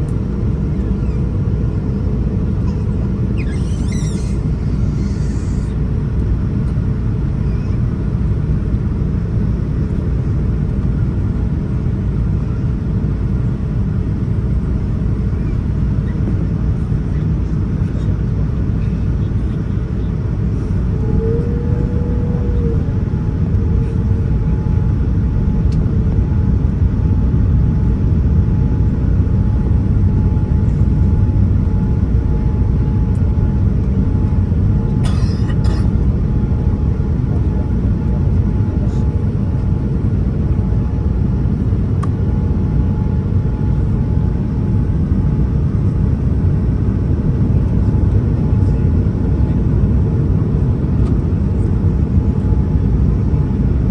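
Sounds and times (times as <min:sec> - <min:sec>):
airliner cabin rumble: 0:00.0 - 0:53.9
faint steady hum: 0:00.0 - 0:53.9.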